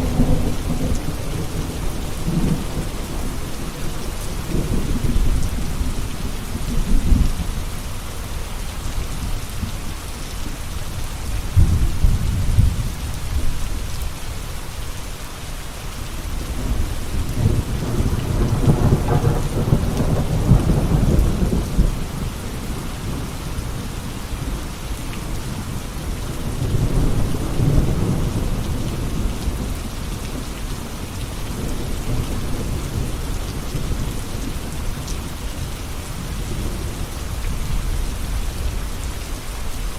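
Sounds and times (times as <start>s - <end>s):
thunder rumbling: 0.0s - 7.6s, 11.4s - 14.0s, 16.5s - 38.8s
steady rain falling: 0.0s - 39.9s.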